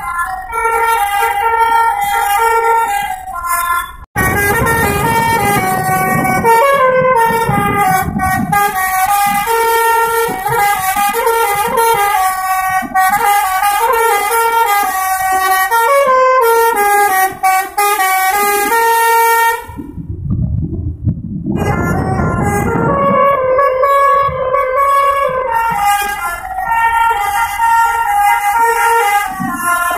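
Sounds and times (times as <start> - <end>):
multi-tone air horn melody: 0.0 - 19.9, 21.5 - 29.9
bus engine rumble: 0.0 - 29.9.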